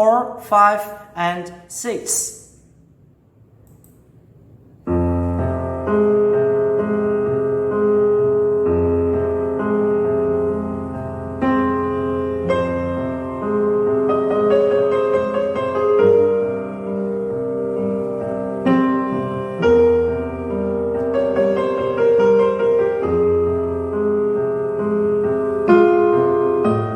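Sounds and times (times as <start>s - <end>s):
slow gentle piano music: 4.8s - 26.9s.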